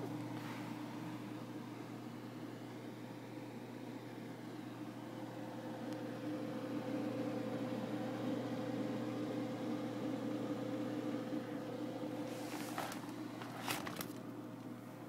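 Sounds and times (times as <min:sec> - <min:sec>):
ventilation fan humming: 0:00.0 - 0:15.0.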